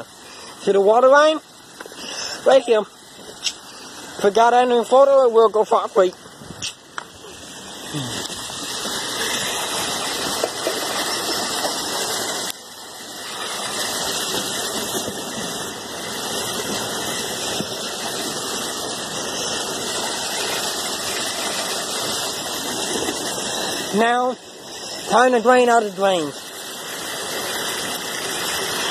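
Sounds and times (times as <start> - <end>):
floodwater rushing into drain: 0.0 - 28.9.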